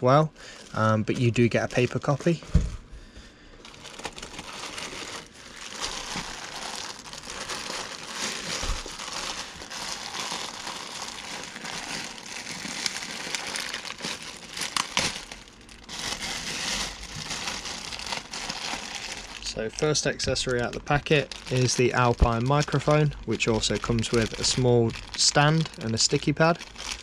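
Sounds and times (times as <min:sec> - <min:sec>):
plastic bag crinkling: 0:00.4 - 0:02.4, 0:03.6 - 0:27.0.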